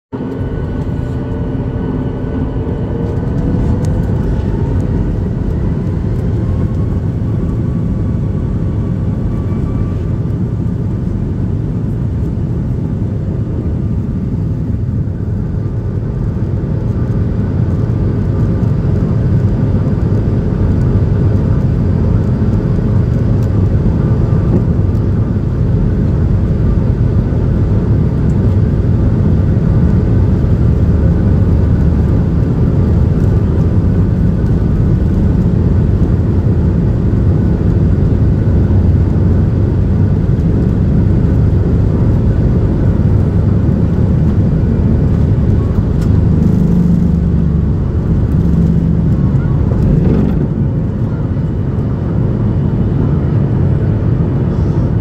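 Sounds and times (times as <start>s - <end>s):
takeoff roll rumble: 0.1s - 55.0s
jet engines whining: 0.2s - 55.0s.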